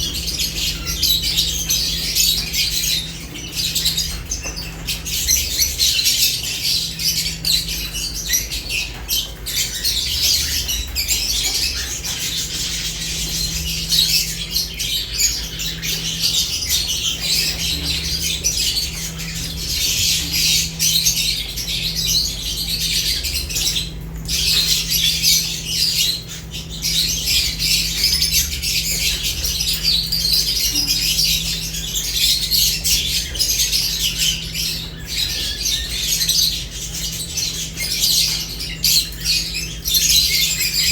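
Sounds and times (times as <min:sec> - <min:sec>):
lovebirds chattering and squawking: 0:00.0 - 0:40.9
low steady hum: 0:00.0 - 0:40.9.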